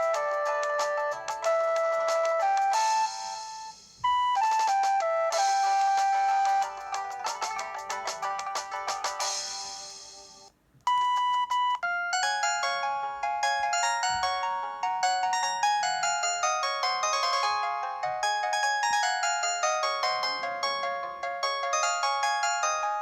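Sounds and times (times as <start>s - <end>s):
fast ringtone melody: 0.0s - 11.2s, 11.8s - 23.0s
phone ringtone tune: 0.0s - 23.0s
ringtone beeps: 0.0s - 23.0s.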